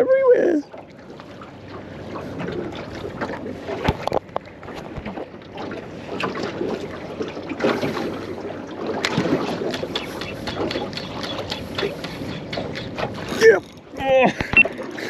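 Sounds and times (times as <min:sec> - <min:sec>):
water sloshing against a hull: 0:00.0 - 0:15.0.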